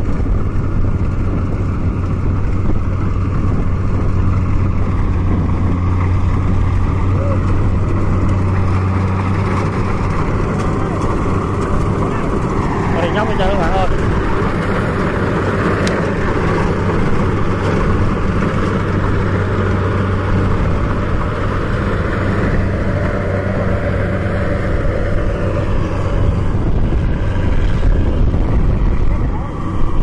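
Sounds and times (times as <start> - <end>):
combine harvester engine droning: 0.0 - 30.0.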